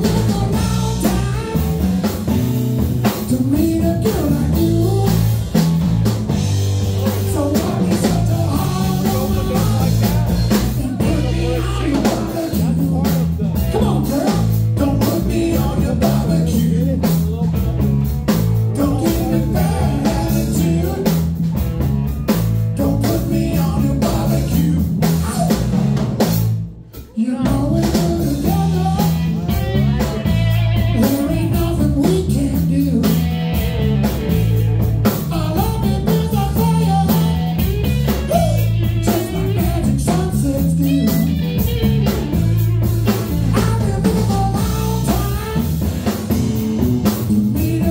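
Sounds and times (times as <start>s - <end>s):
bass guitar: 0.0s - 47.9s
drum kit: 0.0s - 47.9s
electric guitars: 0.0s - 47.9s.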